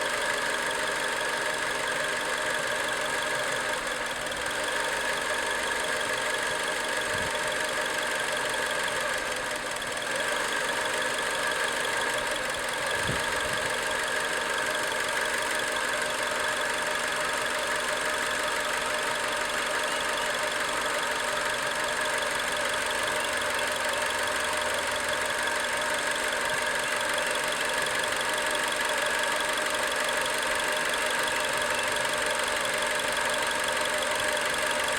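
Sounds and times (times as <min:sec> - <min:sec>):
car engine running: 0:00.0 - 0:34.9
engine ticking: 0:00.0 - 0:34.9.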